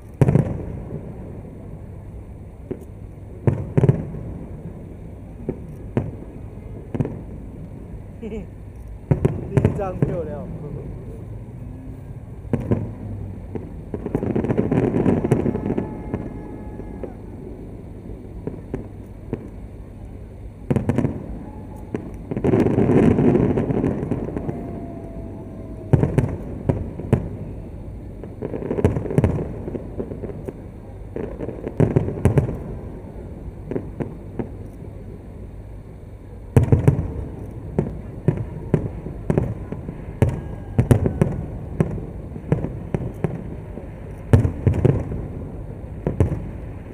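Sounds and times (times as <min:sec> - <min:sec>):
firework cracks and pops: 0:00.0 - 0:02.0, 0:02.6 - 0:11.3, 0:12.5 - 0:35.0, 0:36.5 - 0:46.9
fireworks booming: 0:00.0 - 0:46.9.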